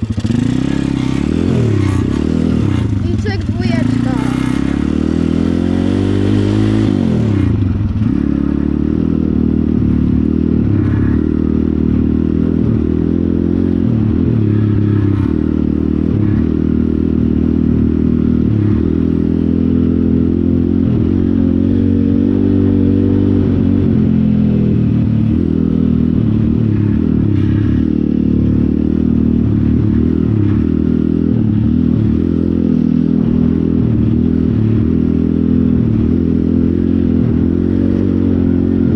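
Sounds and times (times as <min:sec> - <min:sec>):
pit bike engine running: 0:00.0 - 0:38.9.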